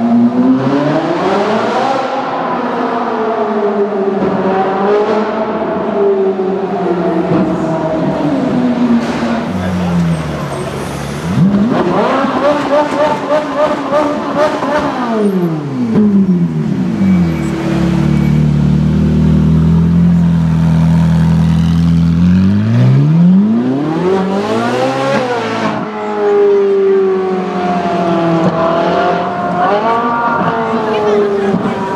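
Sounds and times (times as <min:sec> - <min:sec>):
sports car exhaust revving: 0:03.6 - 0:31.9.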